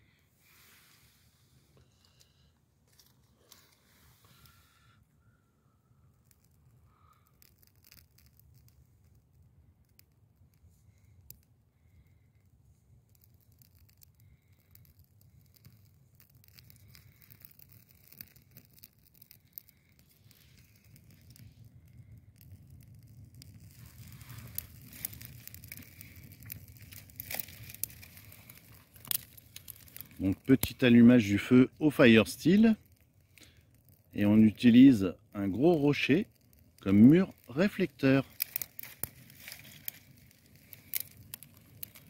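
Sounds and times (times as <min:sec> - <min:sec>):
small fire crackling: 0:00.0 - 0:42.0.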